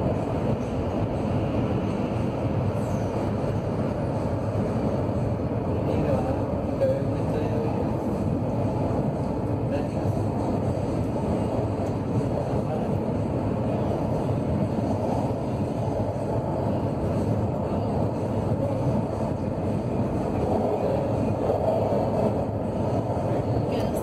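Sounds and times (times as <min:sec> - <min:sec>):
metro train running in tunnel: 0:00.0 - 0:24.0.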